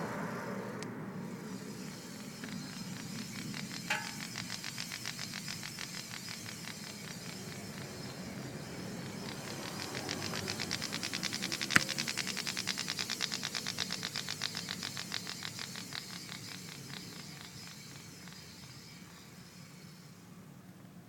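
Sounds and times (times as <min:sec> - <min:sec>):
rapid regular ticking: 0:01.2 - 0:20.2.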